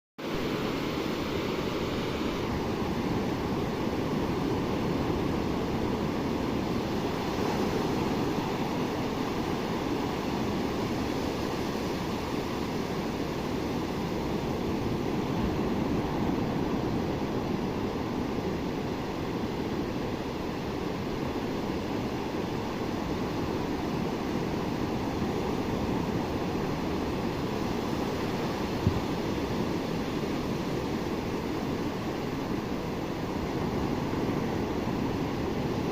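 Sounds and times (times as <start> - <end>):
waves breaking on beach: 0.2 - 35.9.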